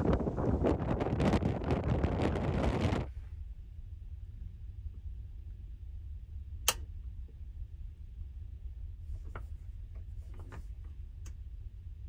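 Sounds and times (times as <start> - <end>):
deep hum of ship engines: 0.0 - 12.0.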